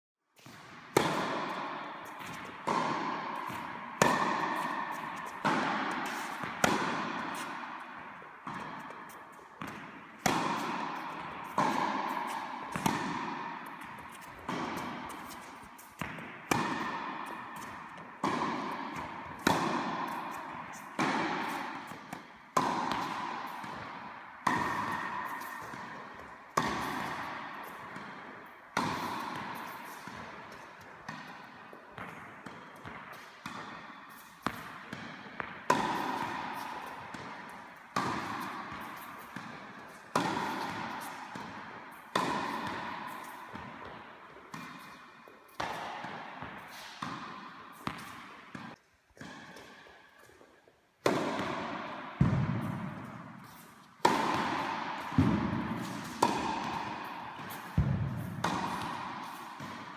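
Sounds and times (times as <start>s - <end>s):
tennis ball bouncing: 0.4s - 50.4s, 51.0s - 59.9s
tennis ball hit by racket: 0.4s - 50.4s, 51.0s - 59.9s.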